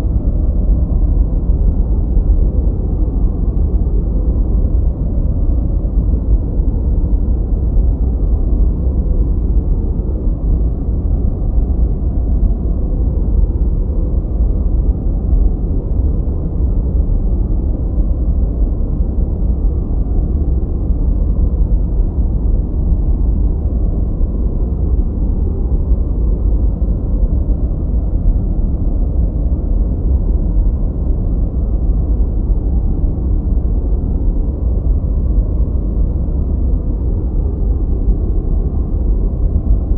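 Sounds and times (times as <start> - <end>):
deep rumbling noise: 0.0 - 39.9.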